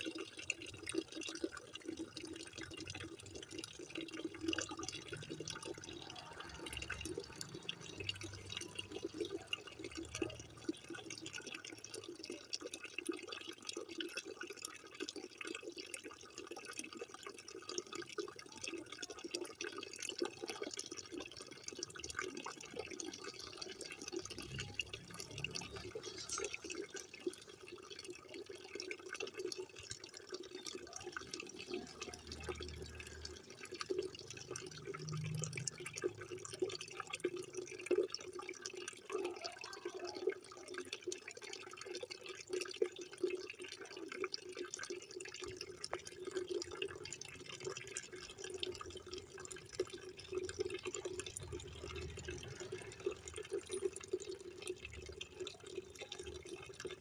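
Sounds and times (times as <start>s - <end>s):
small drip-like splashes: 0.0s - 57.0s
water running and splashing: 0.0s - 57.0s.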